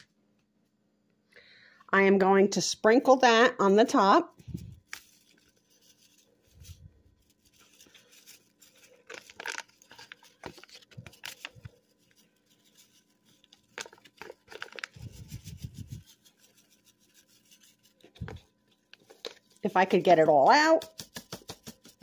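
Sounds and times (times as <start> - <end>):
packet rustling and crinkling: 4.4 - 22.0.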